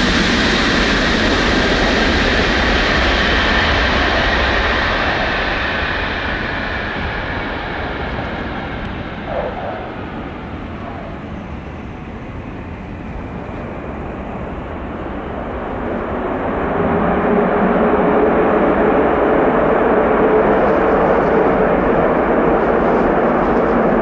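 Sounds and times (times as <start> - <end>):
jet engine high whine: 0.0 - 24.0
jet engine rumble: 0.0 - 24.0.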